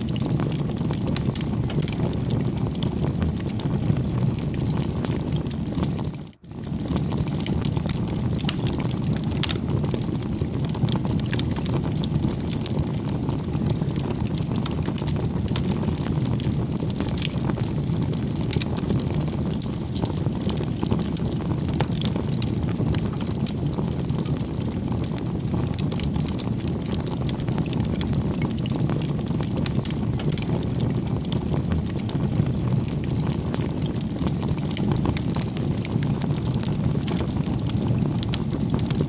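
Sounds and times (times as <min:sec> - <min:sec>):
bonfire pops and snaps: 0:00.0 - 0:39.0
low rumble of burning wood: 0:00.0 - 0:39.0.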